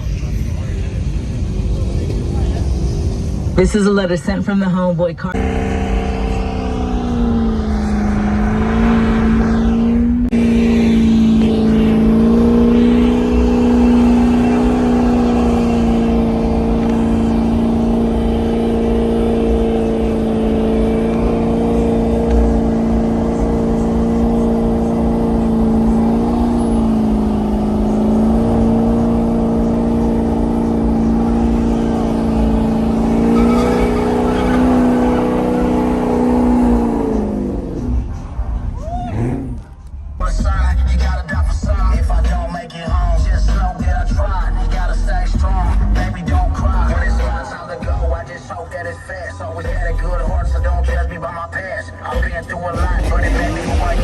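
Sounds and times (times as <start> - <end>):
vehicle engine revving high: 5.3 - 54.0.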